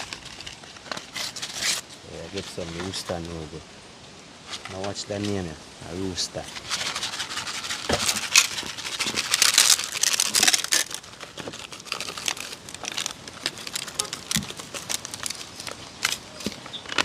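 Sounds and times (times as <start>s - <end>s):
packet crinkling and tearing: 0.0s - 3.4s, 6.4s - 17.0s.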